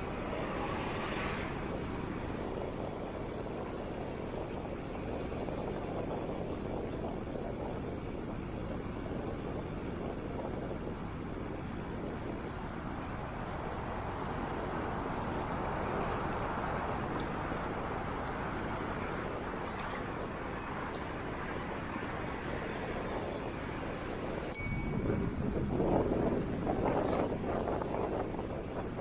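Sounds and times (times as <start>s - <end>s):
rushing wind: 0.0s - 29.0s.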